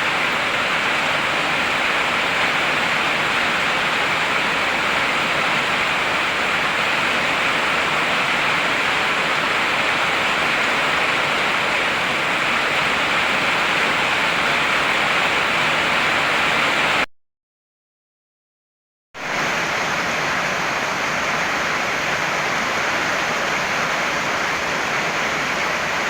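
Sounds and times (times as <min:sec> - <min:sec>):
heavy rain falling: 0:00.0 - 0:17.0, 0:19.2 - 0:26.0.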